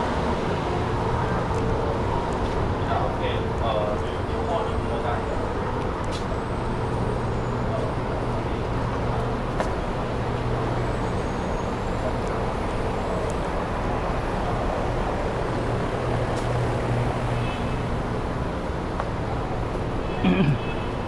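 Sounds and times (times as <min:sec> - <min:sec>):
passing and idling vehicles: 0:00.0 - 0:21.0.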